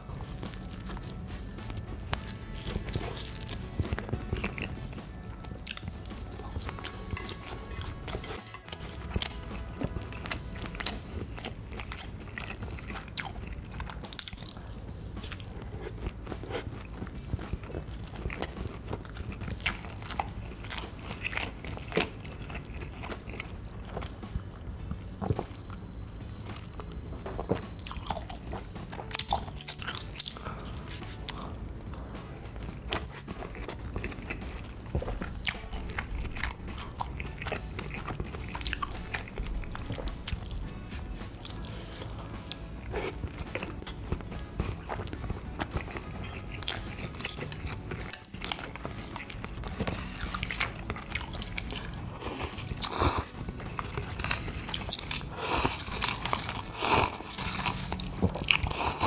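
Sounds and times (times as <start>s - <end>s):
person biting and chewing food: 0.0s - 59.0s.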